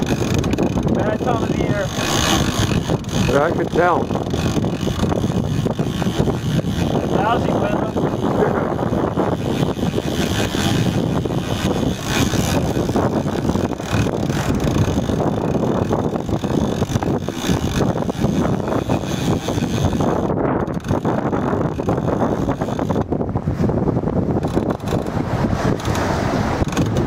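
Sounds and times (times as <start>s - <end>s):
outboard motors droning: 0.0s - 27.0s
water rushing past a hull: 0.0s - 27.0s
wind buffeting the microphone: 0.0s - 27.0s.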